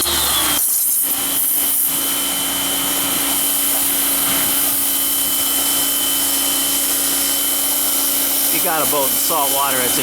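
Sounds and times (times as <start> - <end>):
pressure washer machine hum: 0.0 - 10.0
pressure washer water jet hissing: 0.0 - 10.0.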